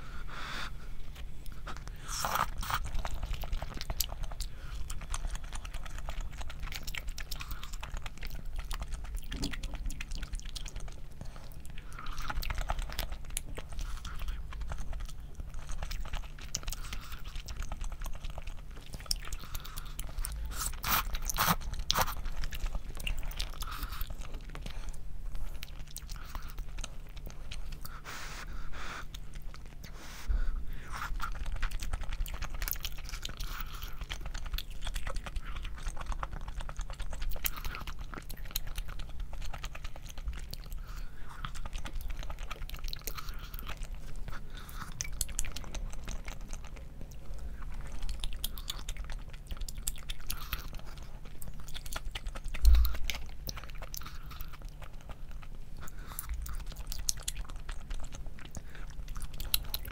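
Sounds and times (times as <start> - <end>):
person chewing: 0.0 - 59.9
food crunching: 1.1 - 59.9.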